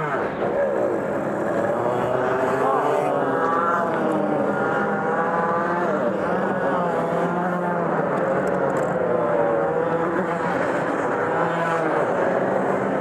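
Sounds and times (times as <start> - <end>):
racing kart engine revving: 0.0 - 13.0.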